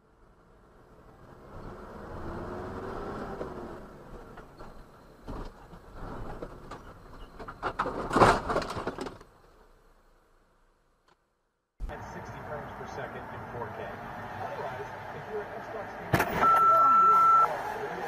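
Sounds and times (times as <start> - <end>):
vehicle engine: 0.0 - 10.7, 11.8 - 18.0
road noise: 0.0 - 18.0.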